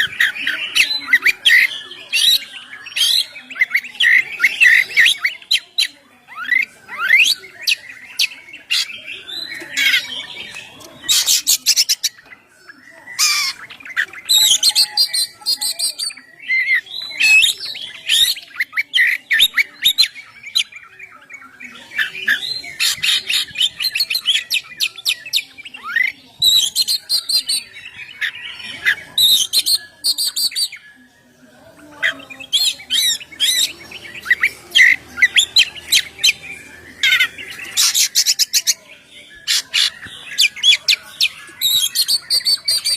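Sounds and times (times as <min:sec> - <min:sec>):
songbird singing varied song: 0:00.0 - 0:42.9.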